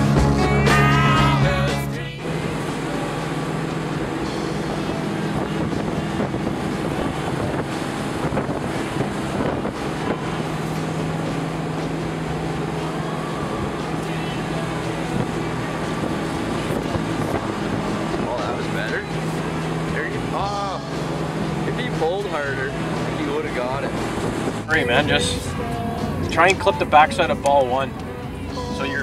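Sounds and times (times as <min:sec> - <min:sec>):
boat engine humming: 0:00.0 - 0:29.0
water rushing and spray: 0:00.0 - 0:29.0
wind buffeting microphone: 0:02.3 - 0:26.3.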